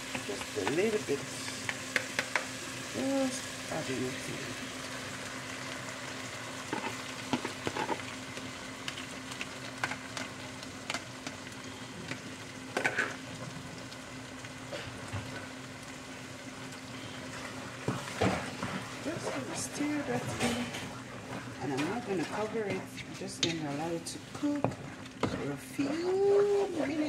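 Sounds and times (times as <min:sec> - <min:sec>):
soup sizzling in a pot: 0:00.0 - 0:27.0.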